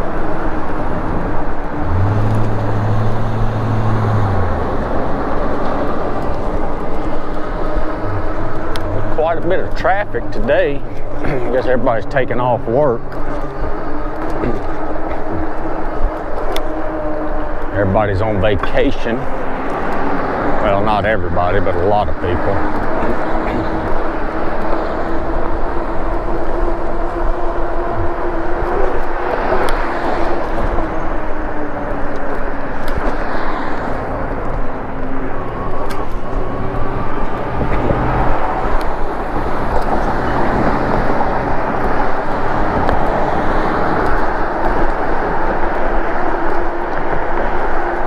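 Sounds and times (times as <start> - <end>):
rush of passing cars: 0.0 - 48.0
steady hum: 0.0 - 48.0.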